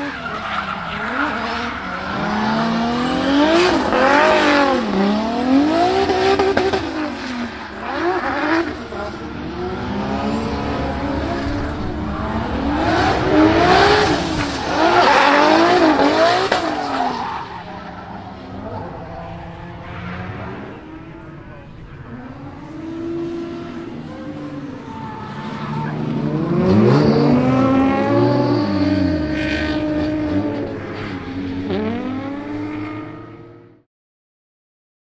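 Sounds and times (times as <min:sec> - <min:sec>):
turbocharged engine revving: 0:01.2 - 0:16.8, 0:18.5 - 0:33.2.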